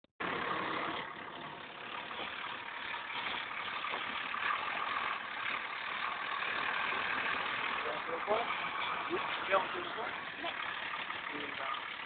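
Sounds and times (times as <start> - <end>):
tractor diesel engine running: 0.2 - 12.0.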